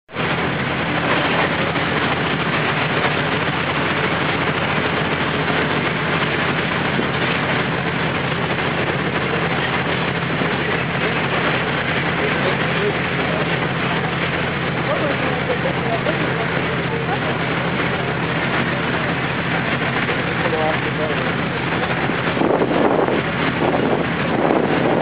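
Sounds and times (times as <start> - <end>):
boat engine running: 0.1 - 25.0
rushing wind and sea: 0.1 - 25.0.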